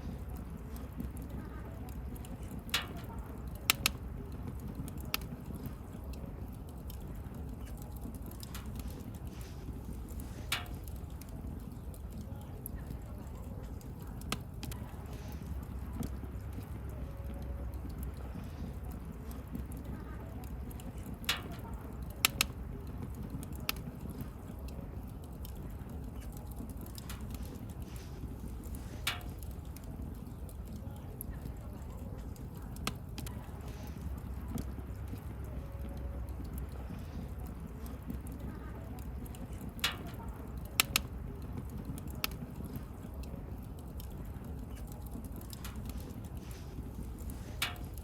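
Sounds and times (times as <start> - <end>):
bonfire crackling: 0.0 - 48.0
low rumble of flames: 0.0 - 48.0
sharp pops of fire: 0.1 - 16.7, 20.5 - 35.5, 36.2 - 48.0.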